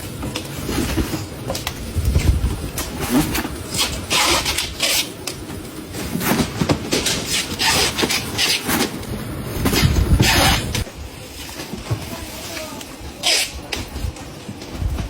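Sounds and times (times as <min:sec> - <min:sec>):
machinery clattering and hissing: 0:00.0 - 0:15.0.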